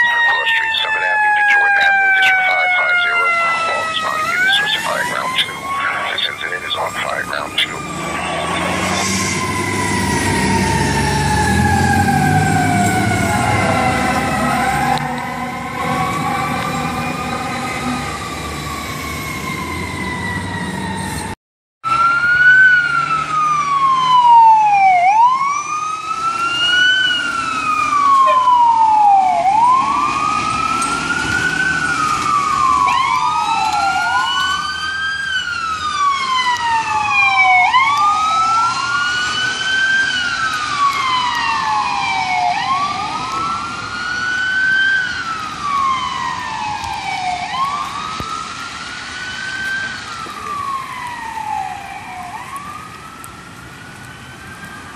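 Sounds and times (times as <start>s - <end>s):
falling siren tone: 0.0s - 54.9s
fire truck sirens wailing: 0.0s - 54.9s.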